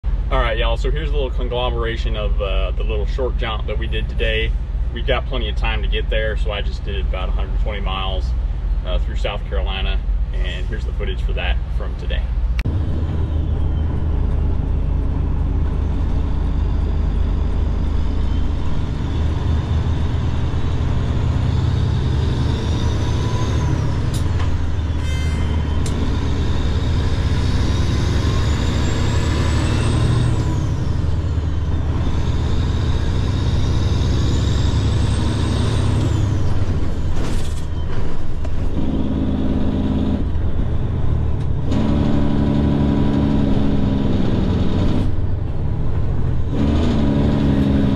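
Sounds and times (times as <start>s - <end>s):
high engine whine: 0.0s - 47.9s
truck diesel engine accelerating: 0.0s - 47.9s.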